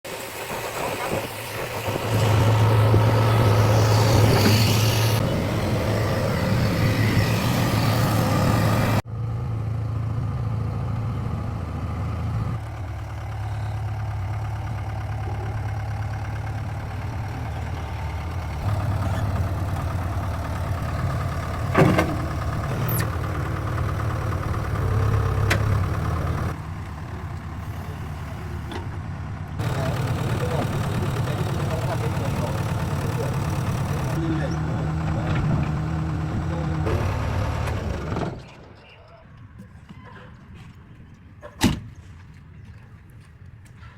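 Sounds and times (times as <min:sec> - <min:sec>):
diesel engine humming: 0:00.1 - 0:39.6.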